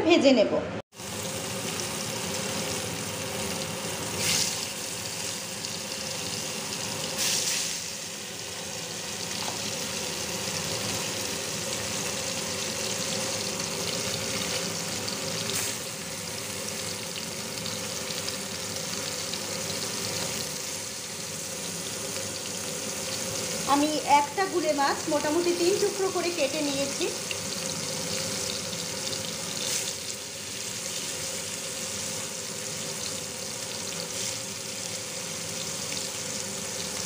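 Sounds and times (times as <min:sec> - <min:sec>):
fish sizzling in oil: 0:00.9 - 0:37.0.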